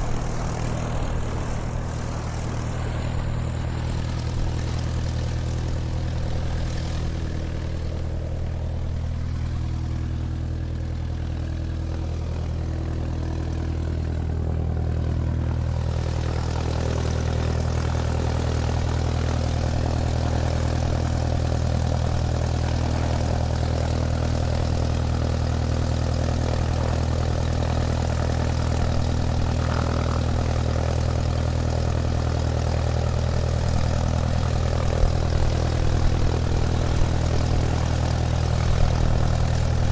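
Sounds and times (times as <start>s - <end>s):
airplane engine humming: 0.0s - 39.9s.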